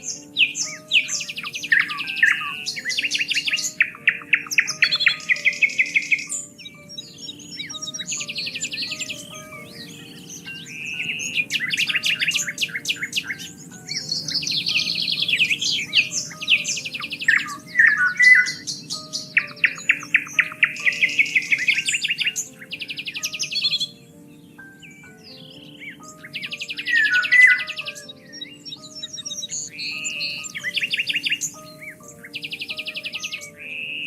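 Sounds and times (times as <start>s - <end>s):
soft sustained notes: 0.0s - 34.0s
songbirds singing and chirping: 0.0s - 34.0s.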